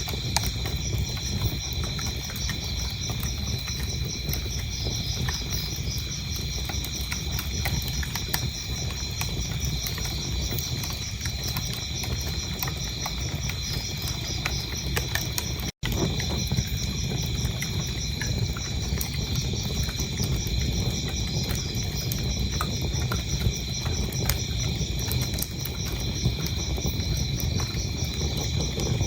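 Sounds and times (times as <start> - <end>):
crickets chirping: 0.0 - 29.0
wood fire crackling and popping: 0.0 - 29.0.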